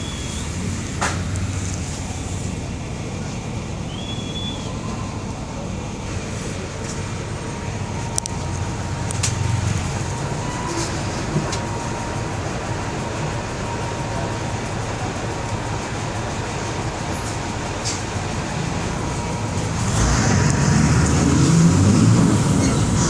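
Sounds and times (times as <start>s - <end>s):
bus engine droning: 0.0s - 23.0s
road noise: 0.0s - 23.0s.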